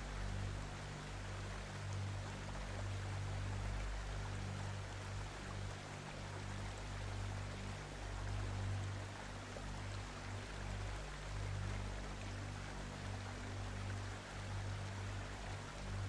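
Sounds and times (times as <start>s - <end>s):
slow background music: 0.0s - 16.0s
steady hiss: 0.0s - 16.0s.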